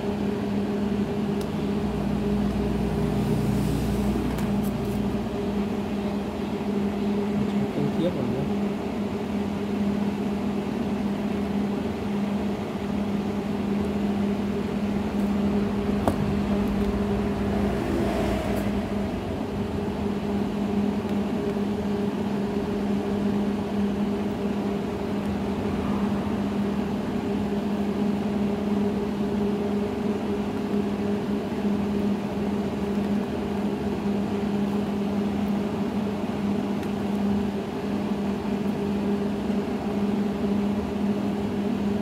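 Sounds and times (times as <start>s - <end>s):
noisy whirr: 0.0s - 42.0s
steady electrical hum: 0.0s - 42.0s.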